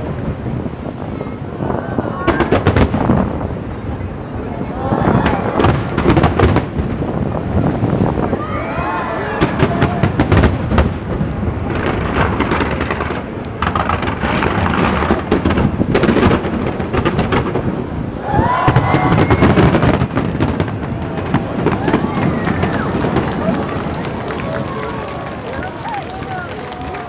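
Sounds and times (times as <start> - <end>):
continuous rumble: 0.0 - 27.0
fireworks bangs and crackling: 0.0 - 27.0.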